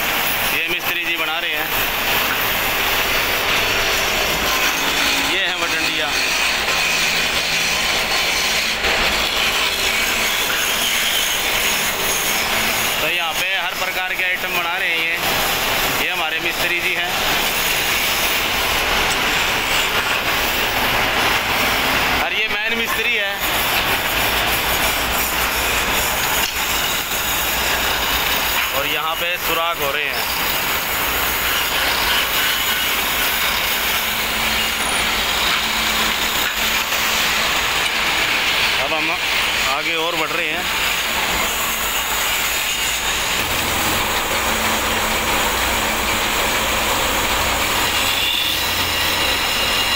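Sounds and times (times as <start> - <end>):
drilling machine whirring: 0.0 - 49.9
woodworking lathes cutting wood: 0.0 - 49.9.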